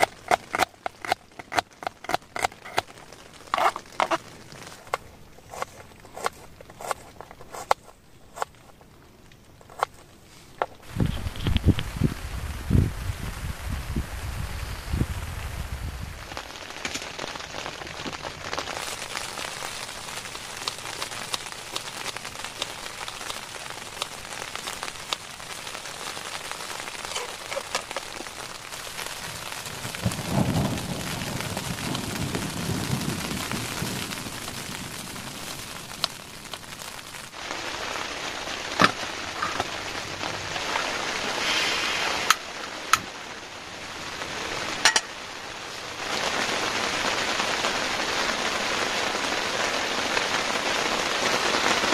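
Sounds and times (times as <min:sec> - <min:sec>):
rain falling on a tent: 0:00.0 - 0:51.9.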